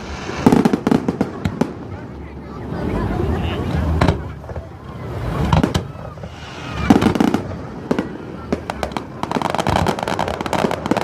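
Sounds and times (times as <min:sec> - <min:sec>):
firework crackling pops: 0:00.0 - 0:02.2, 0:03.9 - 0:11.0.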